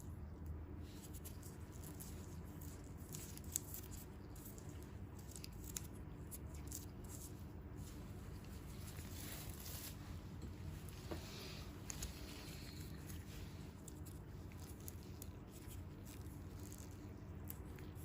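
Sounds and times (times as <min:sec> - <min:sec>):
crackles and rustles of hands: 0:00.0 - 0:18.0
low steady hum: 0:00.0 - 0:18.0.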